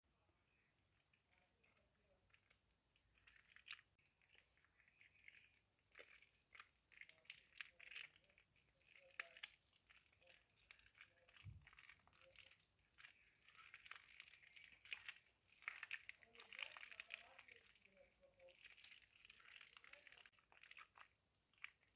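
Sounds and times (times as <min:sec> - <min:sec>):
wet soap crackling and squishing: 0:00.3 - 0:21.9.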